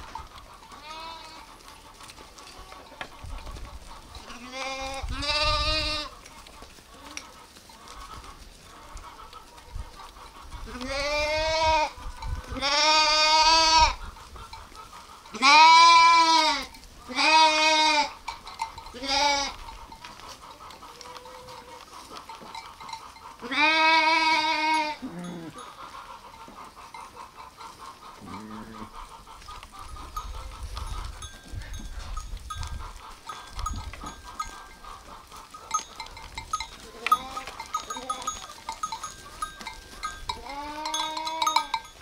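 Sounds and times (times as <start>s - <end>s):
sheep and lambs bleating: 0.1s - 1.7s, 4.0s - 9.6s, 10.2s - 14.0s, 15.3s - 42.0s.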